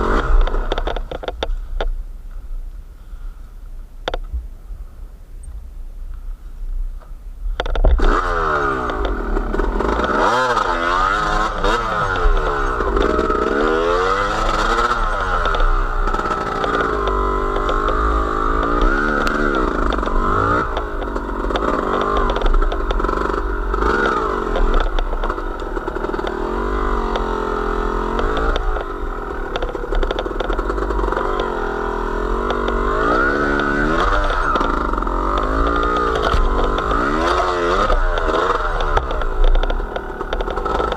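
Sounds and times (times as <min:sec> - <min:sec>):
small vehicle engine revving: 0:00.0 - 0:01.6, 0:07.6 - 0:40.9.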